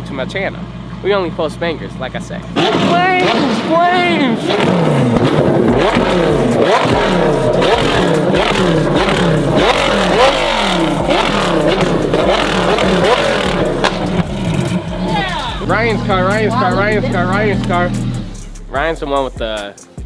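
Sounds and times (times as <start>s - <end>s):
exhaust pop: 2.3s - 18.8s
car engine revving hard: 2.5s - 18.7s.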